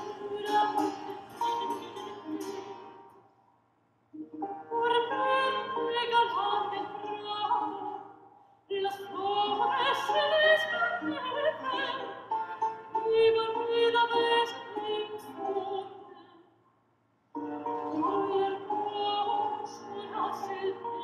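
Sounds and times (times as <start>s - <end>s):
operatic singing with accompaniment: 0.0s - 3.2s, 4.7s - 16.4s, 17.5s - 21.0s.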